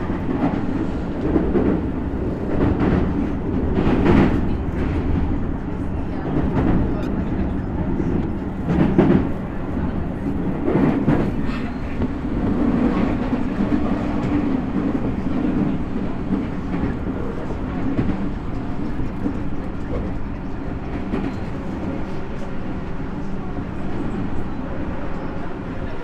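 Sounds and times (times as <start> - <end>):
rail-joint clacks: 0.0 - 5.6, 6.2 - 22.9
train wheels rumbling on rail: 0.0 - 26.0.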